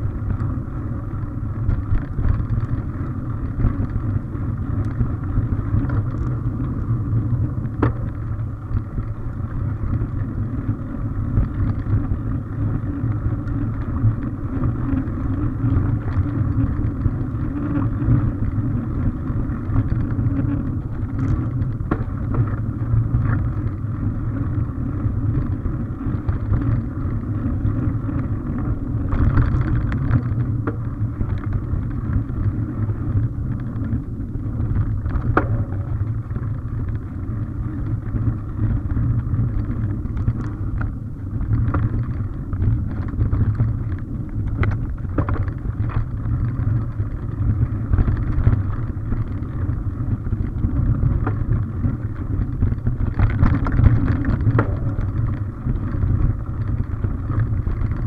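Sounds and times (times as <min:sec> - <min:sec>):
bike rattles: 0:00.0 - 0:58.0
bike tyres rumbling on dirt: 0:00.0 - 0:58.0.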